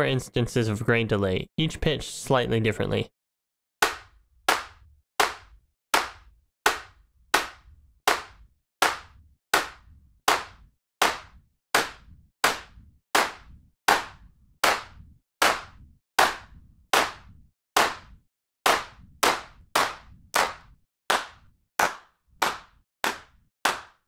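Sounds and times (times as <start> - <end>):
sampled hand claps: 3.8 - 24.0.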